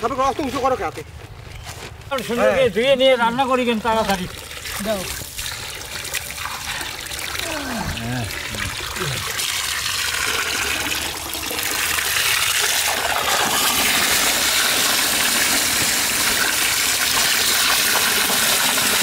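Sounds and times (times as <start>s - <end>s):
water gushing from hose: 3.3s - 19.0s.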